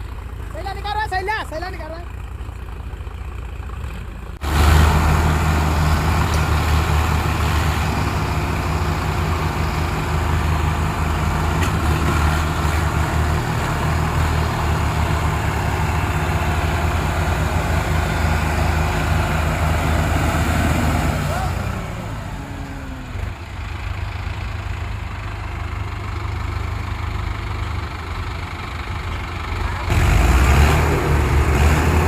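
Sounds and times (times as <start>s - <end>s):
diesel tractor engine running: 0.0s - 32.0s.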